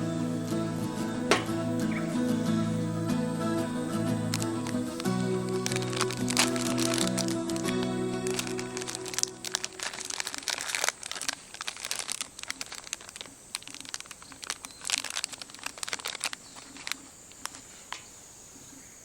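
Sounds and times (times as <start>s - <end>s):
wood fire crackling: 1.1s - 2.5s, 3.1s - 18.0s.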